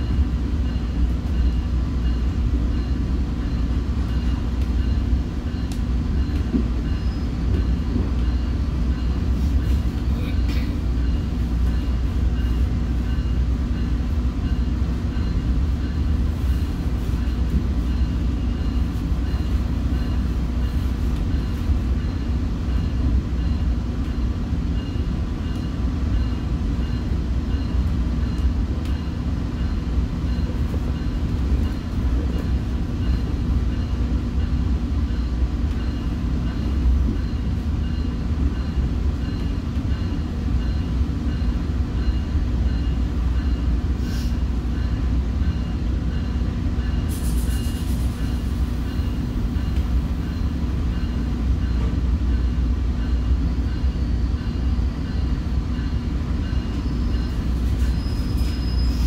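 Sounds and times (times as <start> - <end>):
train wheels rumbling: 0.0 - 59.0.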